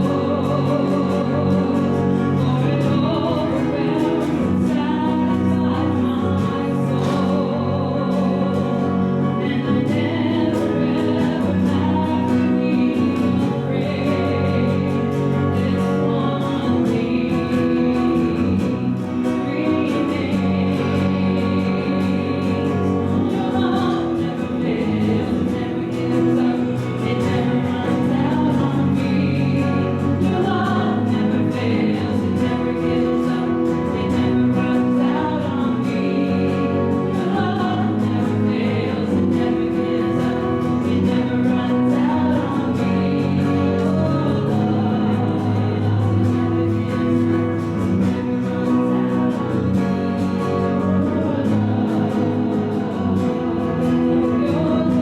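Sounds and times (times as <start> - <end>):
group singing a church song: 0.0 - 55.0.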